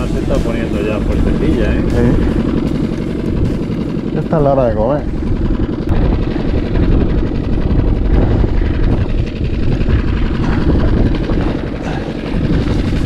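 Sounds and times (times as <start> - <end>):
wind rumble on microphone: 0.0 - 4.1, 4.7 - 13.0
outboard motor running: 0.0 - 13.0.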